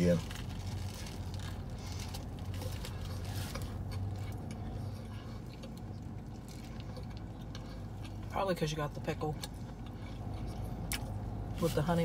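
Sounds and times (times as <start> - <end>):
low hum in car cabin: 0.0 - 12.0
sandwich being chewed: 0.1 - 8.3, 9.4 - 11.6.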